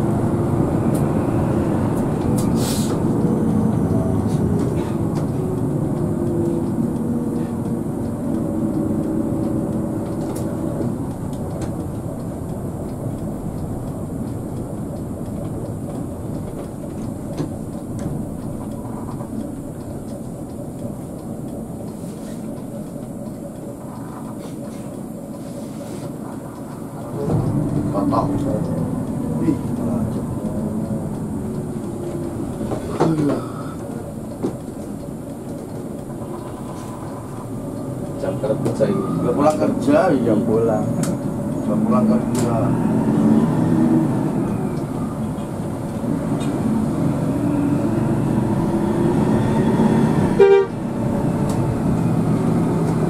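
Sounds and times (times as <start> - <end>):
diesel engine rumble: 0.0 - 53.0
tyres on road: 0.0 - 53.0.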